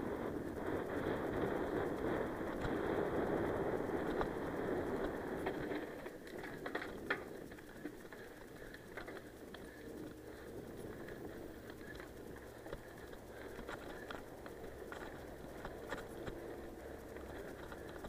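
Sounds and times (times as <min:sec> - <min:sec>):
bike tyres rushing: 0:00.0 - 0:18.0
gravel and bike rattling: 0:00.0 - 0:18.0.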